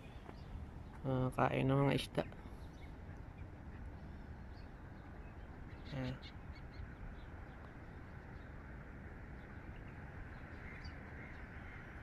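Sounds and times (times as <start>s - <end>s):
open air background hiss: 0.0s - 12.0s
faint waterbird calls: 2.2s - 12.0s.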